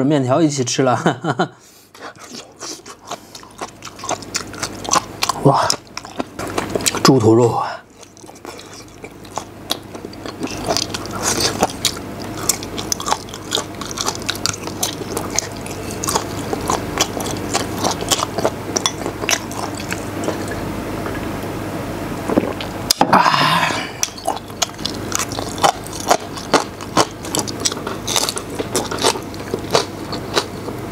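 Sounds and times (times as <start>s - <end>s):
man chewing: 1.8s - 7.2s, 7.8s - 21.6s, 22.2s - 30.9s.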